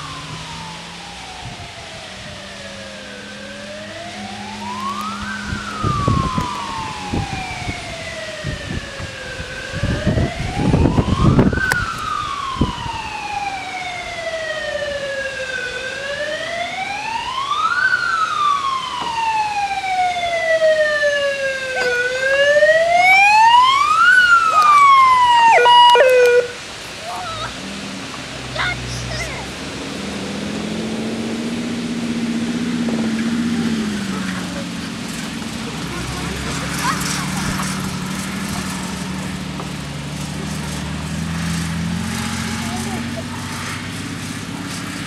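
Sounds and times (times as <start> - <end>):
fire engine siren wailing: 0.0 - 45.0.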